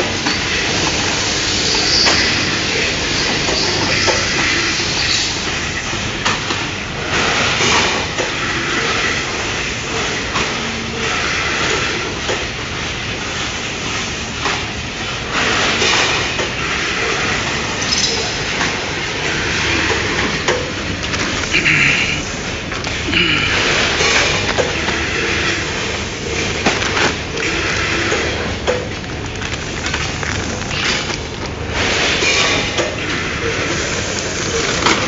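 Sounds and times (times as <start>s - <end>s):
filling machine mechanical clatter: 0.0s - 35.0s.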